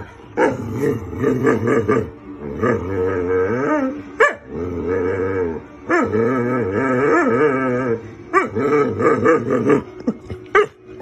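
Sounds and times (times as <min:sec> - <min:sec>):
dog moaning vocalizations: 0:00.0 - 0:11.0.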